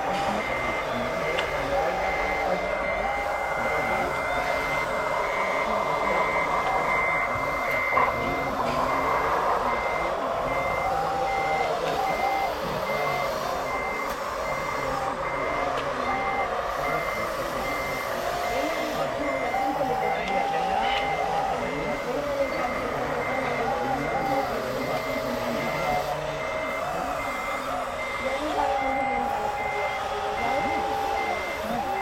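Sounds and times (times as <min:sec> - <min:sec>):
reversing beeper: 0:00.0 - 0:32.0.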